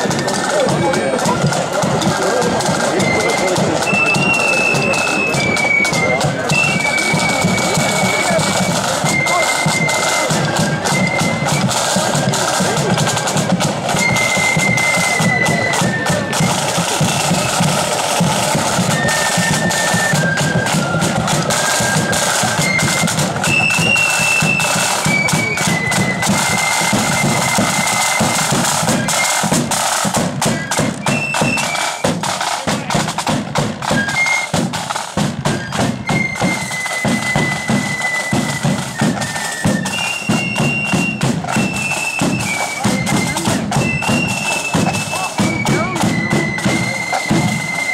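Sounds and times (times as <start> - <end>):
flute melody: 0.0 - 47.9
rapid snare drum beats: 0.0 - 47.9.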